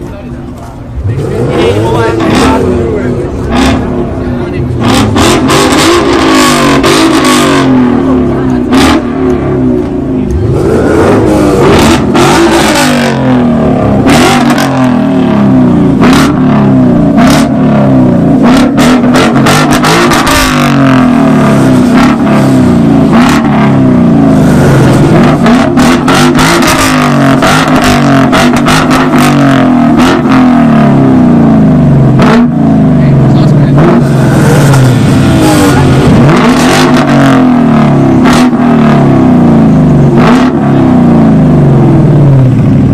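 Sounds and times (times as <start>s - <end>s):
car engines revving hard: 0.0s - 42.9s.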